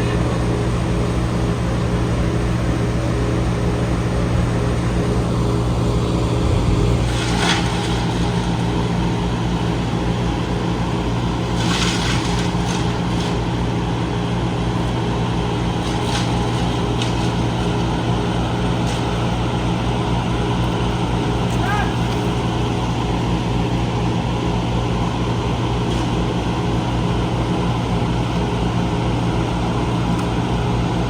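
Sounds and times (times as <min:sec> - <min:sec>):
heavy machinery engine humming: 0:00.0 - 0:31.0.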